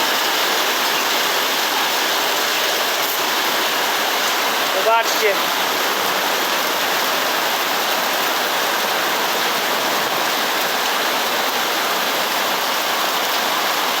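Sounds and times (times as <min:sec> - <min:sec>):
heavy rain and hail: 0:00.0 - 0:14.0.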